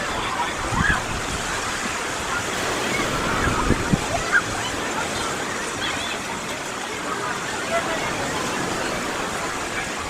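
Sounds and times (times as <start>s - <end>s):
faint distant voices: 0.0s - 10.0s
waves washing onto beach: 0.0s - 10.0s.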